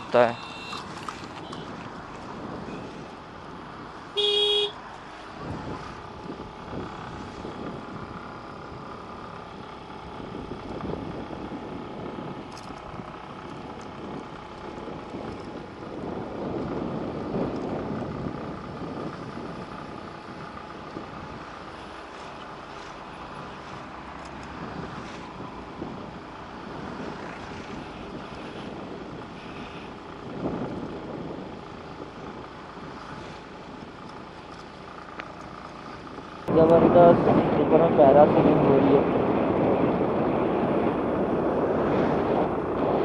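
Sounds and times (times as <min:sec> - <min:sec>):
wind buffeting microphone: 0:00.0 - 0:04.1, 0:04.9 - 0:43.0
motor scooter engine: 0:00.0 - 0:43.0.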